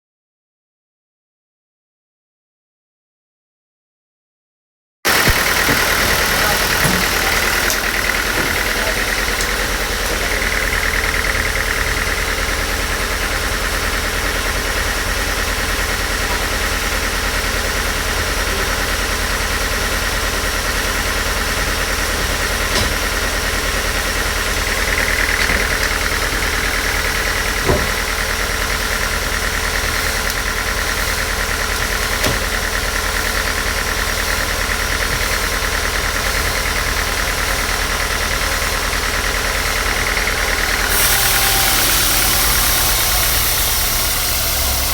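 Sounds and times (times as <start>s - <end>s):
machine motor running: 5.1s - 44.9s.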